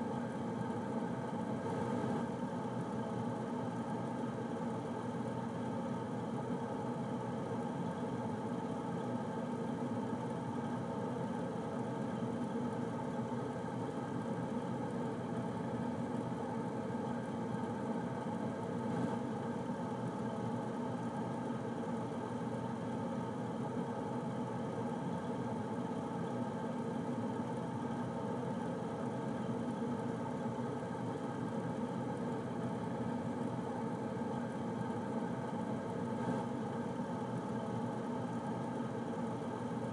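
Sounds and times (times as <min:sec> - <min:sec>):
air conditioner whirring: 0:00.0 - 0:39.9.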